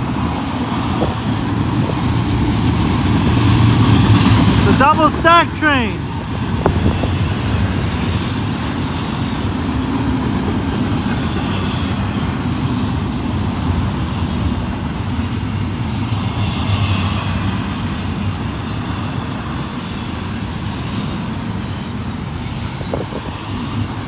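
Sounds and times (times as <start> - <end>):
high hiss of train: 0.0 - 24.0
train wheels rumbling on rail: 0.0 - 24.0.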